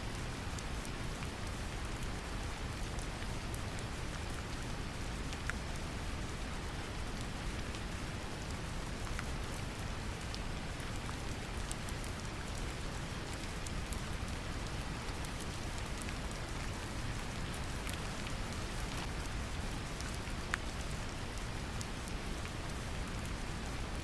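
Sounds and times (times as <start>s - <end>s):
gentle rain drops ticking: 0.0s - 24.0s.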